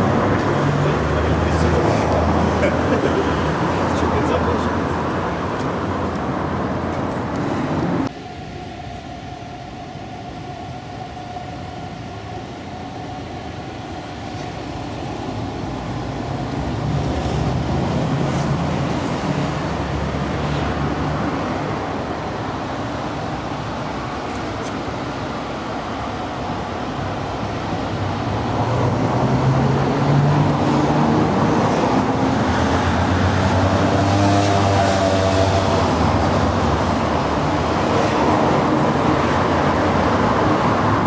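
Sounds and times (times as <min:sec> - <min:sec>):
passing vehicles: 0:00.0 - 0:41.0.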